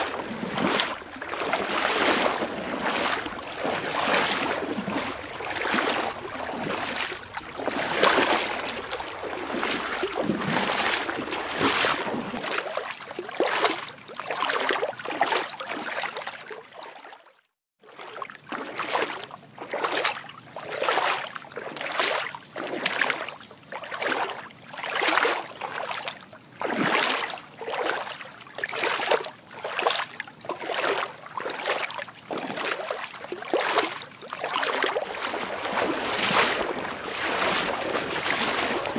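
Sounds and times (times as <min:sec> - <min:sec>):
water sloshing rhythmically: 0:00.0 - 0:38.9.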